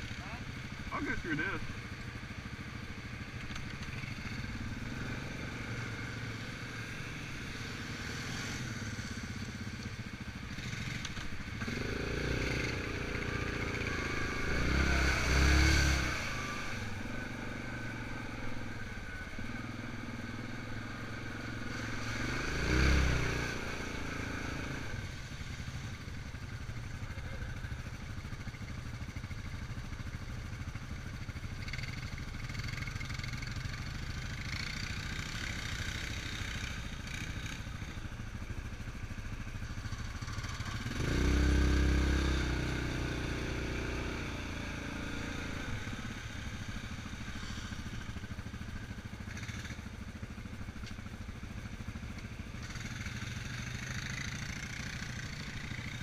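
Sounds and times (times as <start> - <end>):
atv engine revving: 0.0 - 25.8, 31.2 - 51.2, 52.1 - 56.0.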